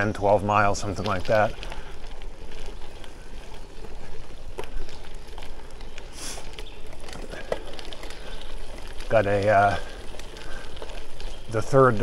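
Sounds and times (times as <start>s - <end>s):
bike tyres rolling over gravel: 0.0s - 12.0s
stones ticking and rattling: 0.0s - 12.0s.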